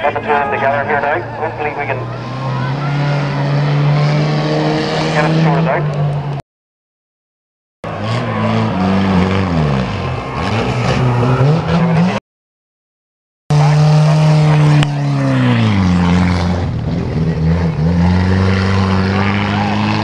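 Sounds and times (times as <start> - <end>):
racing car engines revving: 0.0 - 6.4, 7.8 - 12.2, 13.5 - 20.0.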